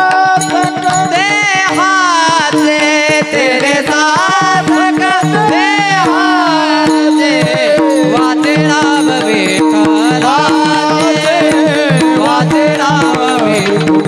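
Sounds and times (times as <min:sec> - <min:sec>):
barrel drum: 0:00.0 - 0:14.0
high-pitched man singing: 0:00.0 - 0:14.0.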